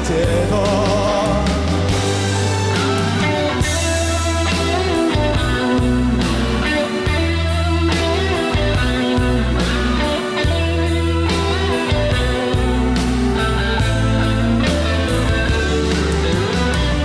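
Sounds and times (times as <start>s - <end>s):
live rock band instrumental: 0.0s - 17.0s.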